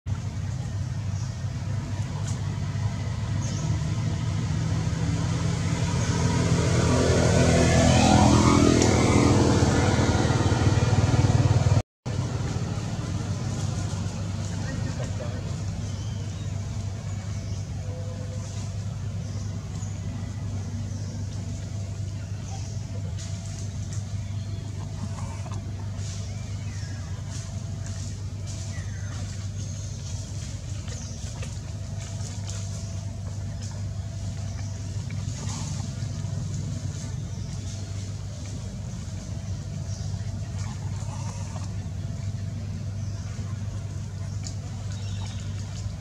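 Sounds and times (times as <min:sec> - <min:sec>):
steady low drone: 0:00.1 - 0:46.0
vehicle engine humming: 0:00.1 - 0:46.0.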